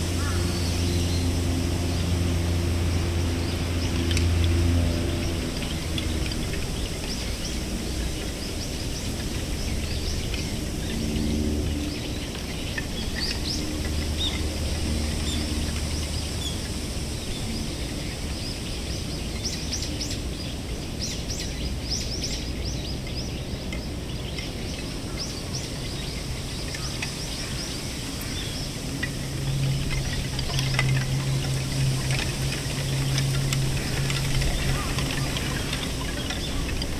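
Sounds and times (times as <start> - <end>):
low steady hum: 0.0 - 36.9
wind-like hiss: 0.0 - 36.9.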